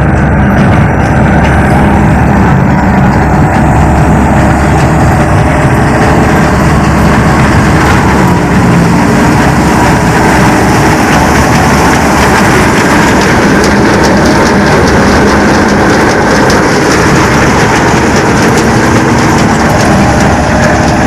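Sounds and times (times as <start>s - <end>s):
combine harvester engine humming: 0.0s - 21.0s.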